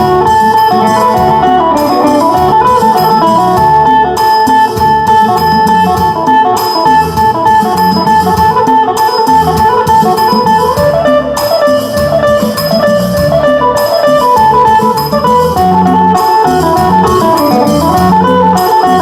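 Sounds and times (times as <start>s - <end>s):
percussion steady beat: 0.0s - 19.0s
plucked lute melody: 0.0s - 19.0s.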